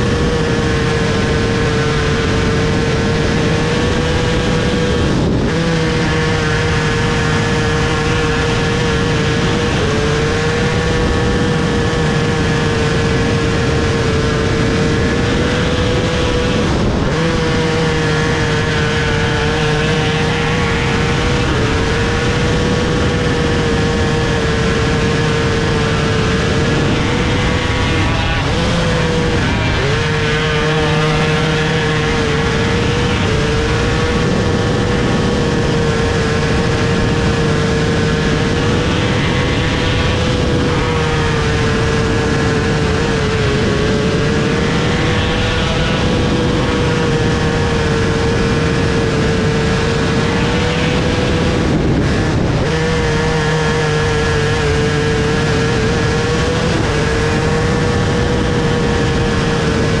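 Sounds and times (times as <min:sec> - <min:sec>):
engine running at high revs: 0:00.0 - 1:00.0.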